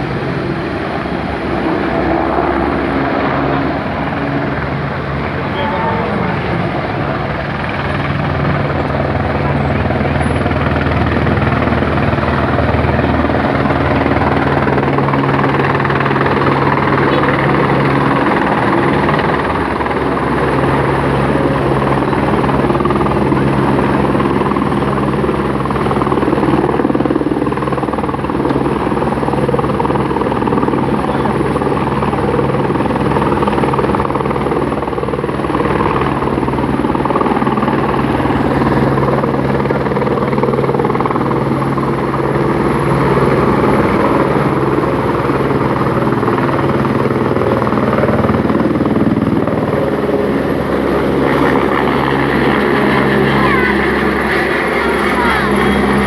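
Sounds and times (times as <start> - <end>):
helicopter rotor beating: 0.0 - 56.0.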